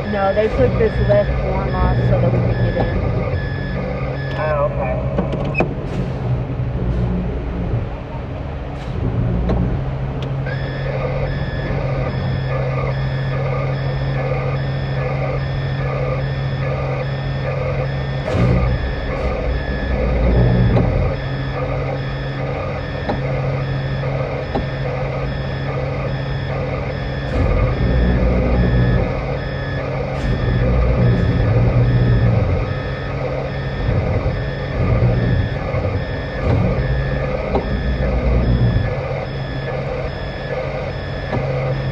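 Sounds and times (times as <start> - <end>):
reversing alarm beeping: 0.0 - 7.8, 8.8 - 41.9
diesel truck engine revving: 0.0 - 41.9.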